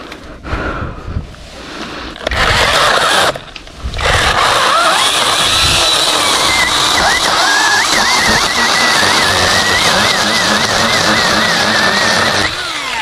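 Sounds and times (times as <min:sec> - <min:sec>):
electric chainsaw cutting wood: 0:02.2 - 0:13.0.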